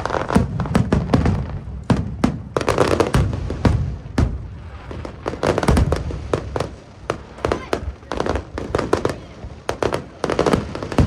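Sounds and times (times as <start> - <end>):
fireworks bangs and crackles: 0.0 - 11.0
fireworks deep booms: 0.0 - 11.0.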